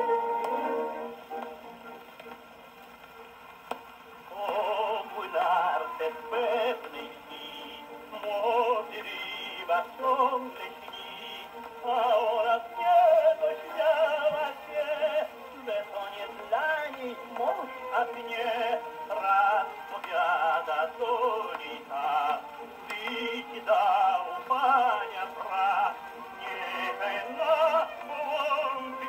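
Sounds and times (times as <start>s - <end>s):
orchestra accompaniment on gramophone: 0.0s - 29.0s
man singing with vibrato: 4.3s - 29.0s.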